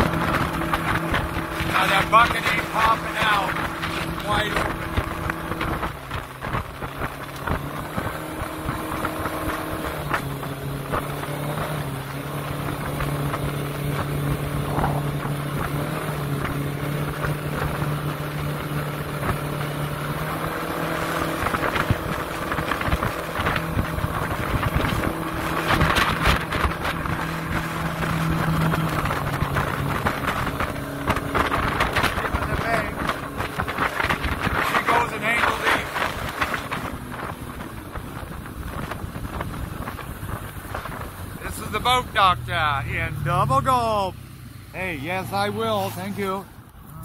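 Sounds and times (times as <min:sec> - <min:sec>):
boat engine drone: 0:00.0 - 0:47.0
wind and water rushing past hull: 0:00.0 - 0:47.0.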